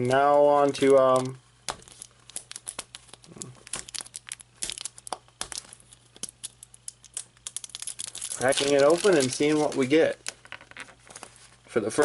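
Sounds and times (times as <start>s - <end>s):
paper label crinkling and tearing: 0.6s - 11.6s.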